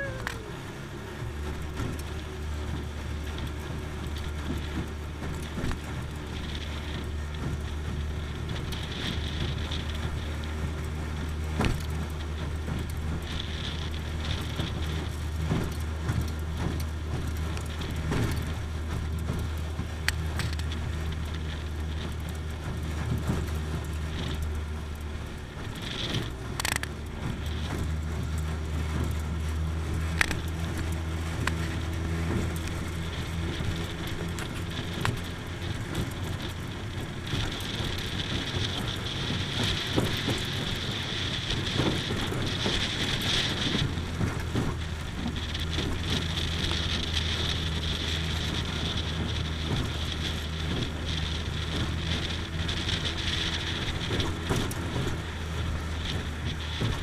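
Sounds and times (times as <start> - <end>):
boat motor droning: 0.0 - 57.0
metal hull slapping water: 0.0 - 57.0.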